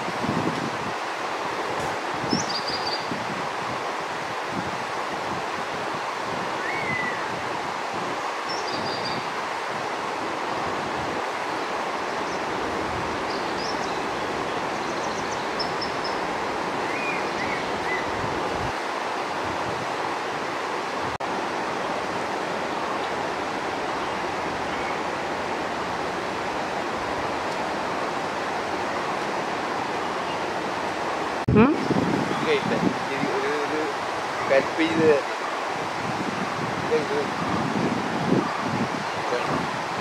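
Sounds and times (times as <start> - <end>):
river water over rapids: 0.0 - 40.0.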